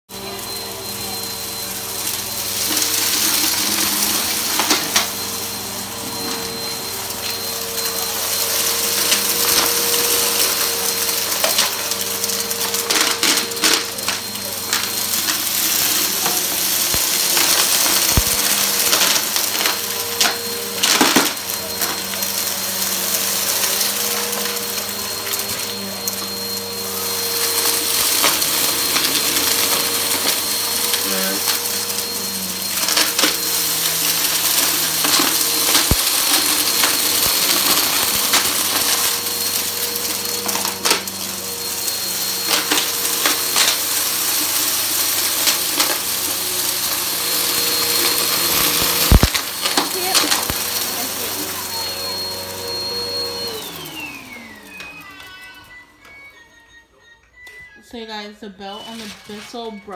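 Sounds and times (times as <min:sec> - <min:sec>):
vacuum cleaner running: 0:00.0 - 0:59.9
debris crackling in vacuum: 0:01.5 - 0:55.4.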